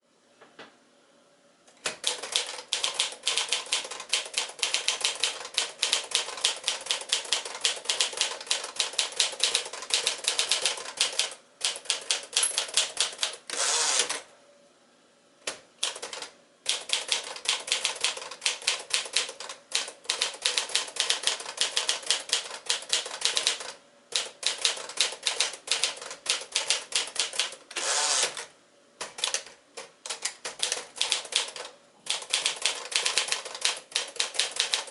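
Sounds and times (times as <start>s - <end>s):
typewriter carriage return: 1.8s - 14.2s, 15.8s - 34.9s
typewriter keystrokes: 1.8s - 14.2s, 15.5s - 34.9s.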